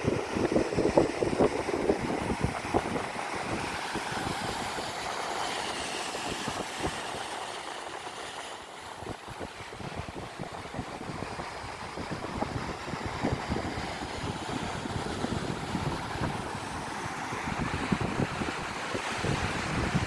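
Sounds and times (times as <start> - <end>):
ocean surf washing onto beach: 0.0 - 20.0
wind buffeting microphone: 0.0 - 20.0.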